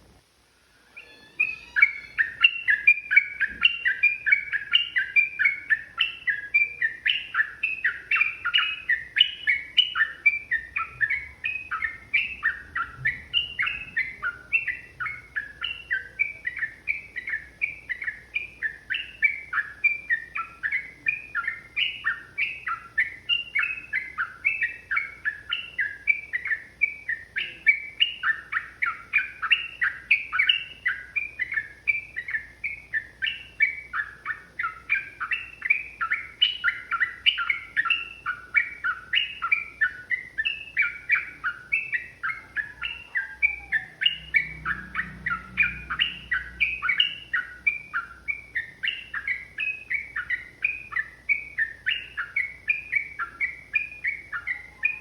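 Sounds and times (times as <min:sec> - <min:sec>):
bird chattering song: 0:01.0 - 0:55.0.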